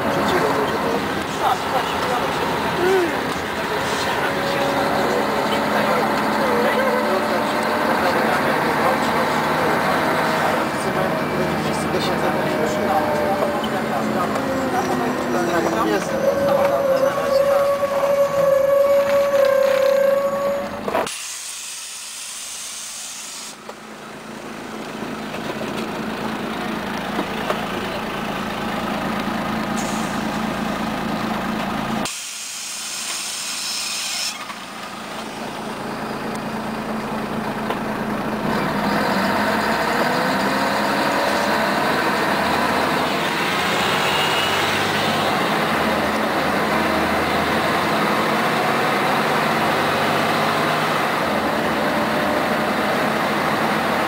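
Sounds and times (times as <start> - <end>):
bus diesel engine: 0.0 - 54.0
engine whine accelerating: 0.0 - 54.0.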